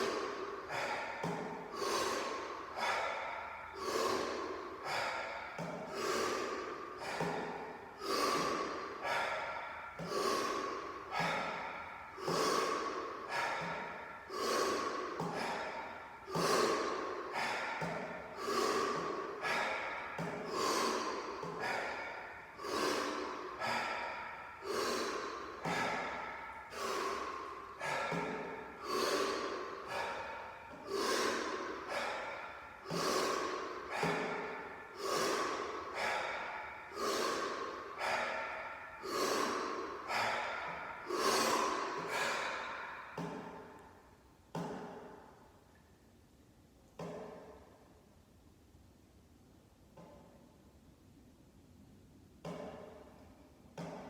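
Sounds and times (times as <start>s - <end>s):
man breathing forcefully: 0.0s - 45.6s, 47.0s - 47.7s, 52.4s - 54.0s.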